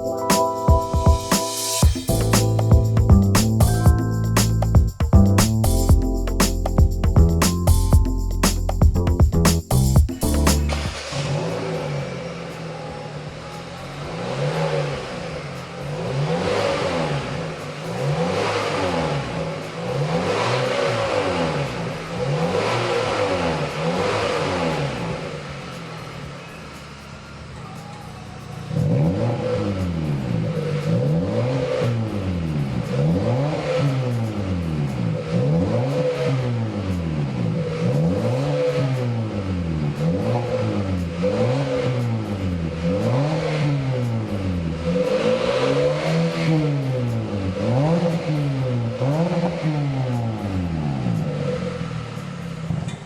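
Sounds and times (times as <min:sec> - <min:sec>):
car engine revving: 0:09.4 - 0:27.6, 0:28.3 - 0:53.0.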